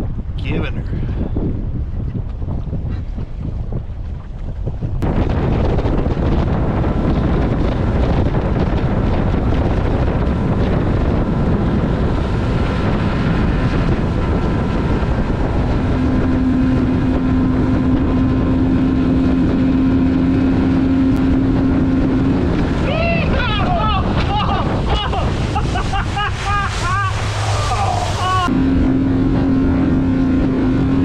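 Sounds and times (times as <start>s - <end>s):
wind rushing over microphone: 0.0s - 31.0s
outboard motor running: 1.1s - 31.0s.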